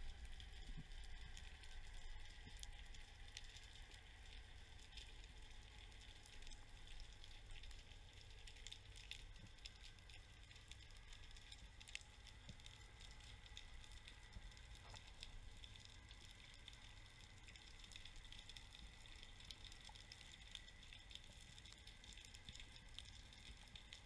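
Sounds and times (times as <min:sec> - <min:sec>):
low underwater rumble: 0:00.0 - 0:24.0
crackling clicks: 0:00.1 - 0:24.0.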